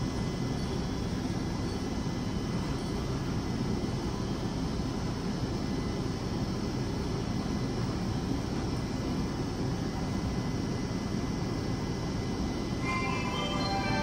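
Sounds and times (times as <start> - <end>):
faint steady whining tones: 0.0 - 14.0
train air-conditioning rushing hum: 0.0 - 14.0.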